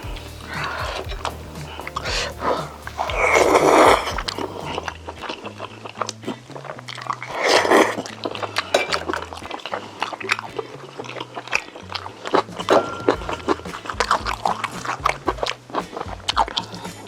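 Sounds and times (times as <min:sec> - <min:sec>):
chewing and mouth smacks: 0:02.9 - 0:17.0.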